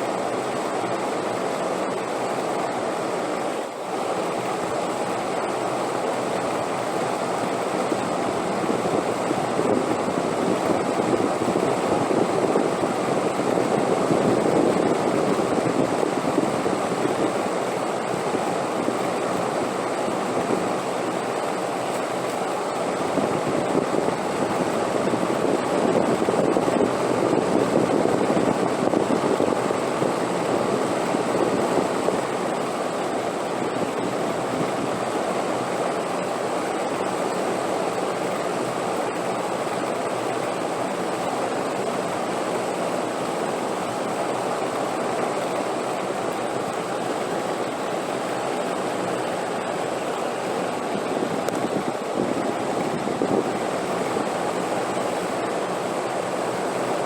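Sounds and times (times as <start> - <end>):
steady wind: 0.0 - 57.0.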